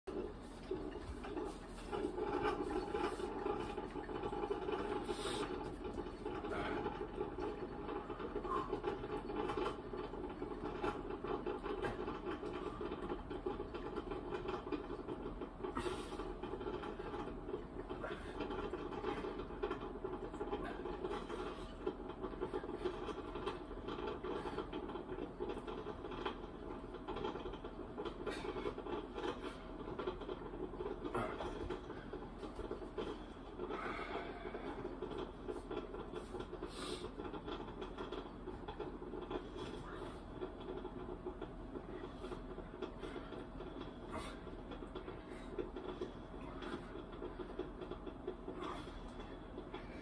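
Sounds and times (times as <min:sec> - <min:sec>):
faint irregular clicks and rattles: 0:00.0 - 0:50.0
steady room hum: 0:00.0 - 0:50.0.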